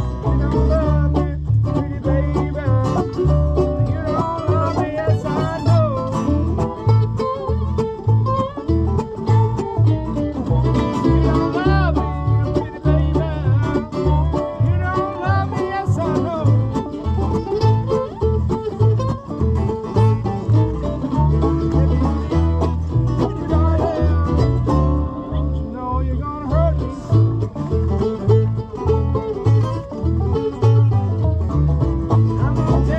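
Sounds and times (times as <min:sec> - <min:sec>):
banjo: 0:00.0 - 0:32.9
bass line: 0:00.0 - 0:32.9
guitar: 0:00.0 - 0:32.9.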